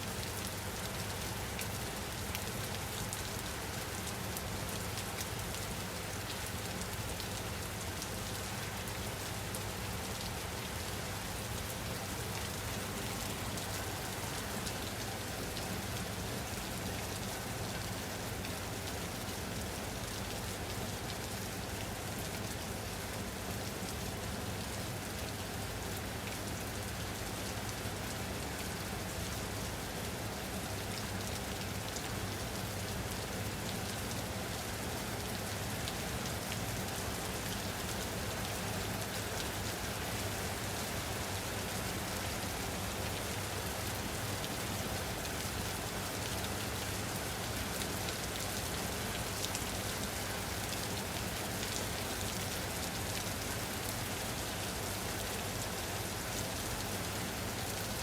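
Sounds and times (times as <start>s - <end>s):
steady rain on a surface: 0.0s - 58.0s.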